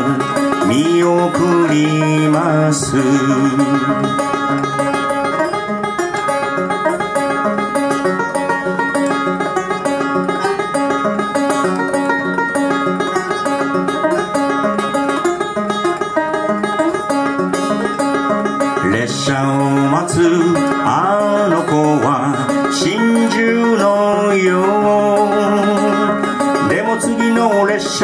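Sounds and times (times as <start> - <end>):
banjo playing: 0.0 - 28.0.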